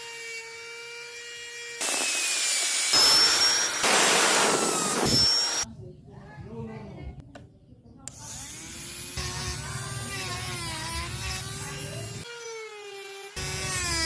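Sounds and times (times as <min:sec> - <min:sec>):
electric rotary tool cutting wood: 0:00.0 - 0:05.6, 0:08.2 - 0:14.0.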